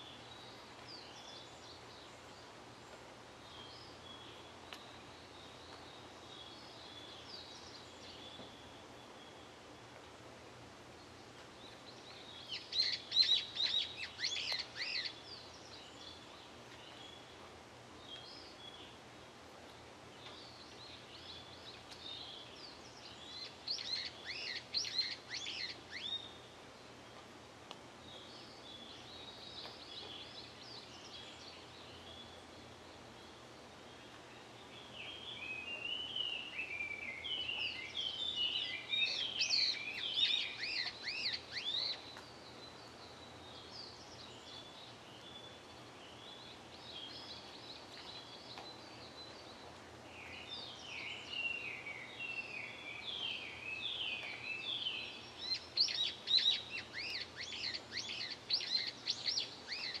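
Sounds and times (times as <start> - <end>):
outdoor background hiss: 0.0 - 60.0
songbird singing: 0.0 - 60.0.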